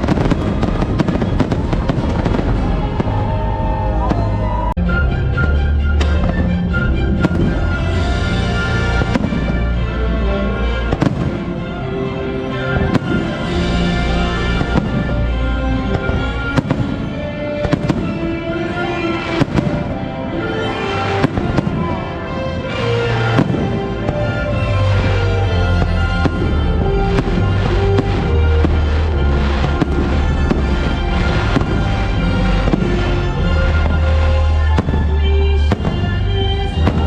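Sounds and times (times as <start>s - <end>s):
fireworks banging: 0.0s - 4.6s, 5.4s - 10.0s, 10.8s - 11.7s, 12.5s - 37.0s
loud show music: 0.0s - 37.0s.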